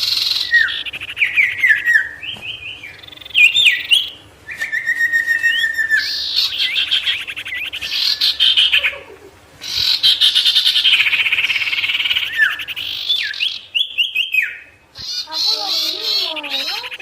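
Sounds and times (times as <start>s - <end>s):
songbird trilling: 0.0s - 17.0s.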